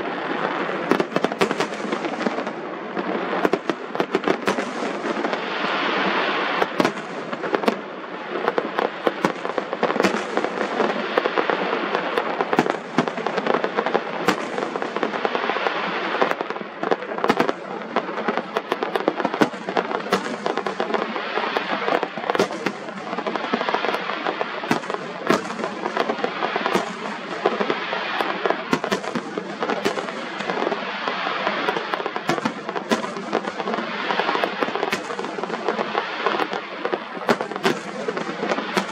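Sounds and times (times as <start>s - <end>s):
firework bangs: 0.0s - 38.9s
fireworks crackle and hiss: 0.0s - 38.9s.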